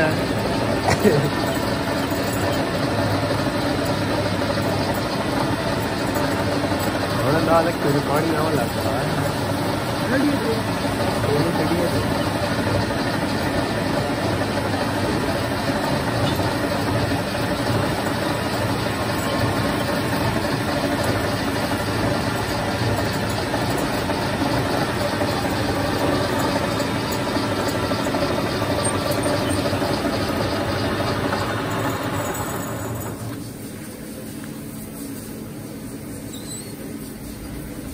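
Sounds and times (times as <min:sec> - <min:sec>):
metal lathe cutting steel: 0:00.0 - 0:33.7.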